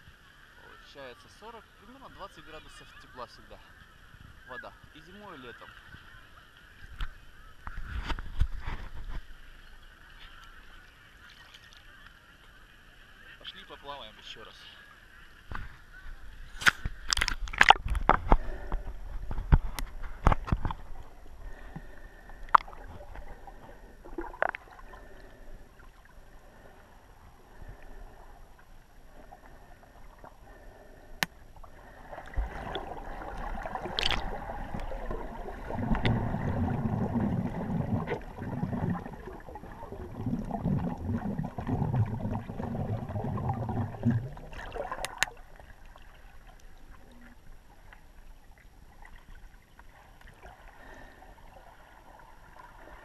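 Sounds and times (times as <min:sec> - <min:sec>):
low rumble of moving water: 0:00.0 - 0:53.0
water splashes: 0:00.2 - 0:53.0.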